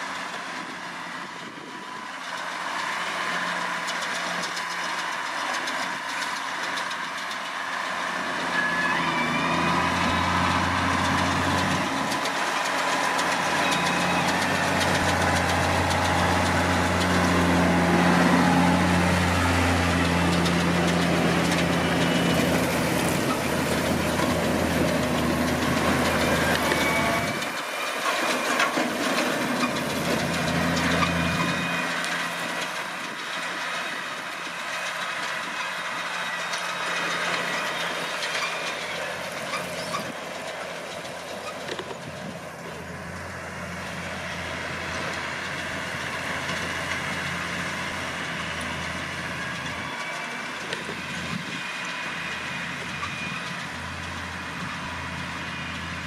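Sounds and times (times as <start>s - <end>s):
baler mechanical noise: 0.0s - 56.0s
tractor engine running: 0.0s - 56.0s.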